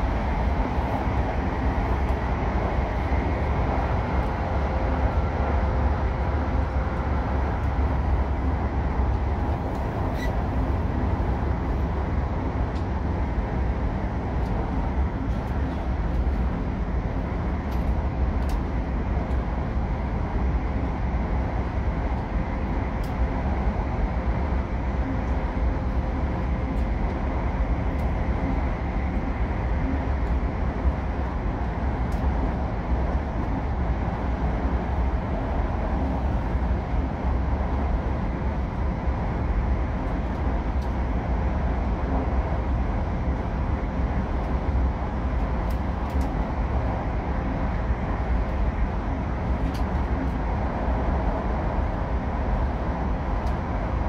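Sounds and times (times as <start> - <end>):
train rumbling inside passenger car: 0.0 - 54.0.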